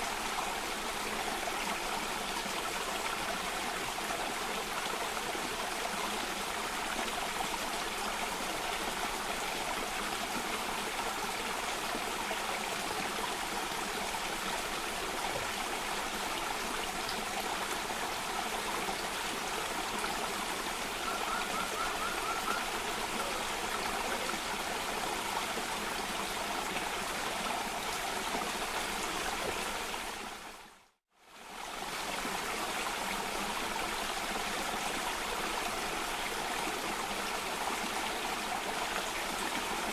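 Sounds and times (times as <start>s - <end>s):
water flowing over cascade: 0.0s - 39.9s.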